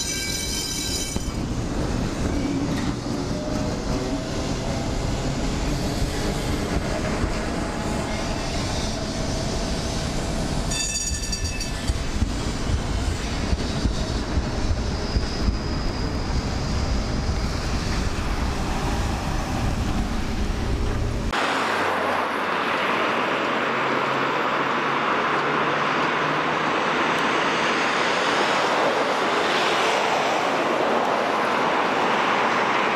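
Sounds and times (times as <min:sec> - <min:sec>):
tram rumbling past: 0:00.0 - 0:32.9.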